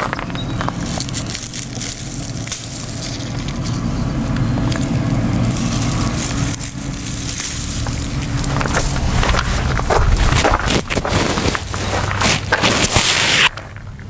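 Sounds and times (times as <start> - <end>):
dried seed heads crackling: 0.0 - 14.0
steady low rumble: 0.0 - 14.0.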